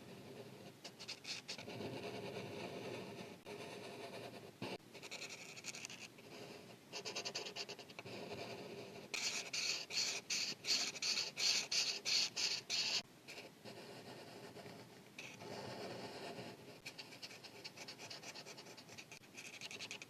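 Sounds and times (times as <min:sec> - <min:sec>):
marker scratching on paper: 0:00.0 - 0:20.0.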